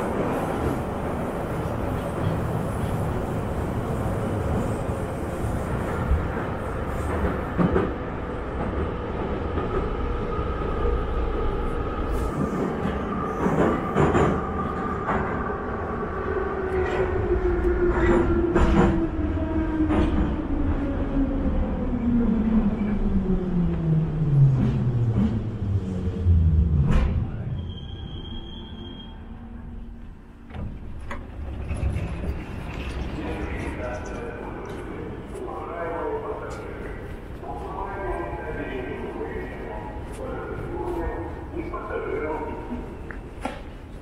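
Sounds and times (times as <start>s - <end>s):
train rumbling in tunnel: 0.0s - 44.0s.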